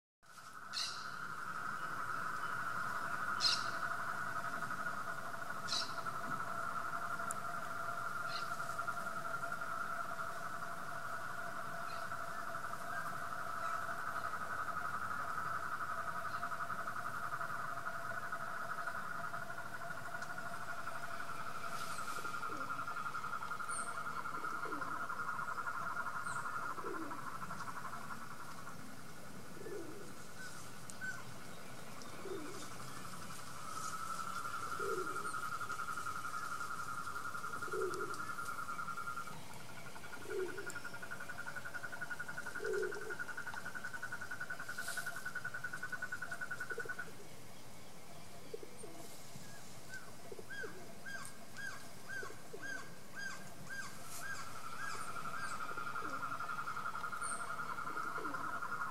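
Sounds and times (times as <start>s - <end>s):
animals' pulsing trills: 0.4s - 58.9s.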